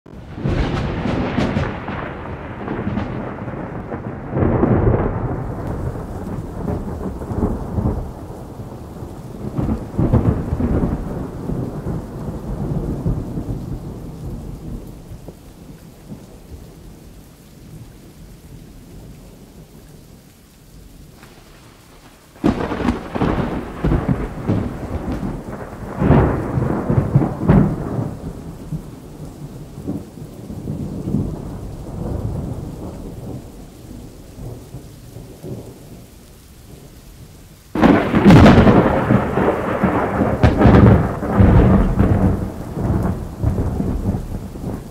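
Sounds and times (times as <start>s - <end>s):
loud thunderclap: 0.1s - 15.4s, 21.2s - 35.8s, 37.7s - 44.9s
thunder rumbling: 0.1s - 17.1s, 21.0s - 36.0s, 37.7s - 44.9s.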